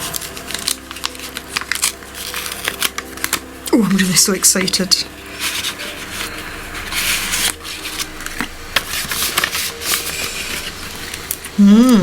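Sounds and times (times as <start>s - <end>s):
paper rustling and crinkling: 0.0s - 11.6s.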